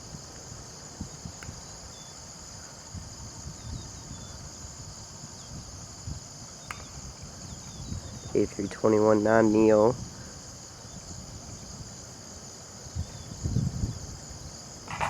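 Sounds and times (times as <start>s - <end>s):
crickets chirping: 0.0s - 15.0s
wind buffeting microphone: 0.0s - 15.0s.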